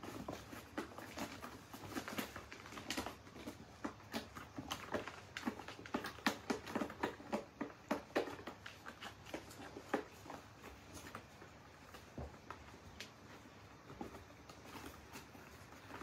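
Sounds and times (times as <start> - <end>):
kitten paws scratching carpet: 0.0 - 16.0.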